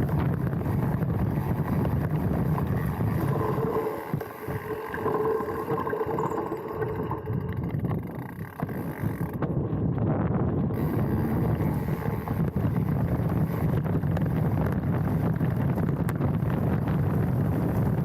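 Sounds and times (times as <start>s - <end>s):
wind buffeting microphone: 0.0s - 6.3s, 7.0s - 18.0s
steady whine from bike: 0.0s - 18.0s
tyre and trail rumble: 0.0s - 18.0s.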